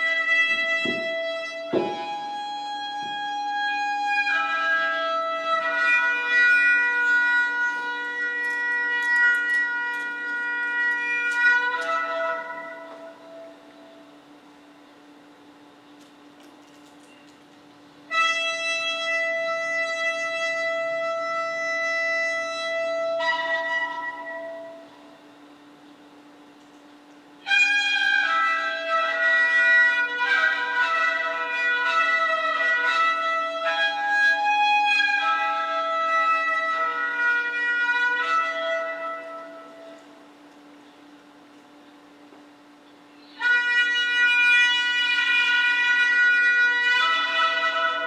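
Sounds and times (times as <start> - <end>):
shofar horn blasts: 0.0 - 14.3, 18.1 - 25.5, 27.4 - 40.4, 43.2 - 48.0
steady low horn tone: 0.0 - 48.0.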